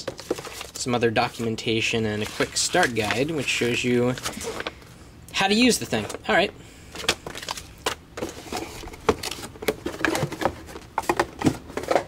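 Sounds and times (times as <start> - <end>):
paper and cardboard rustling: 0.0 - 4.8, 7.0 - 12.0.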